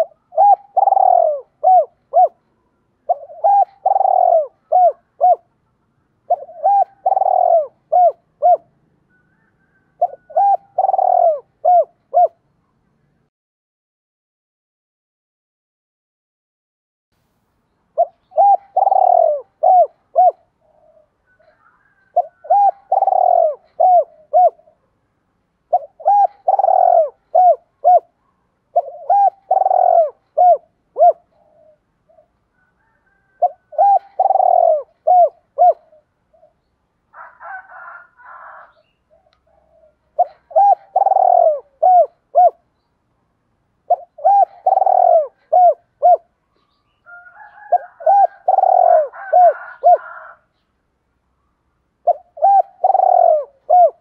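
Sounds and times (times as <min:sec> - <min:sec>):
dove cooing: 0:00.0 - 0:05.6, 0:06.2 - 0:12.4, 0:18.0 - 0:24.9, 0:25.7 - 0:42.7, 0:43.8 - 0:46.4, 0:47.0 - 0:50.6, 0:52.0 - 0:54.0.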